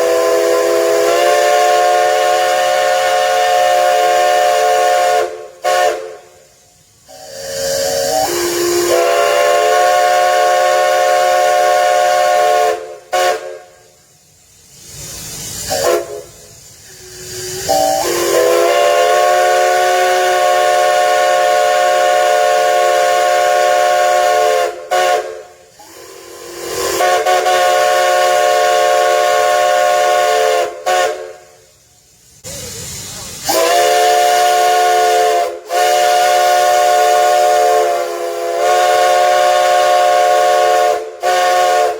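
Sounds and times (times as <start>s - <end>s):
steam locomotive whistle: 0.0s - 14.1s, 14.9s - 31.8s, 32.6s - 41.9s
steam hissing: 0.0s - 41.9s.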